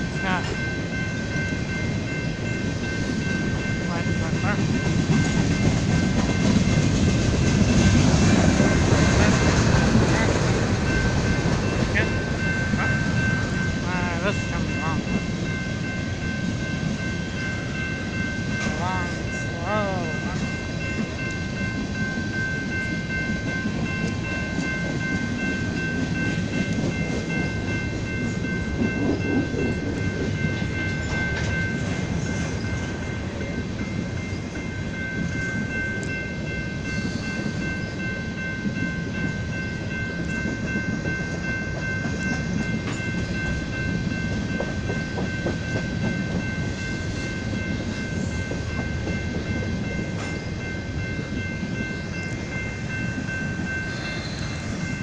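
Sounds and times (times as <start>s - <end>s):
freight train wheels rumbling: 0.0s - 55.0s
high-pitched ringing tone: 10.1s - 55.0s.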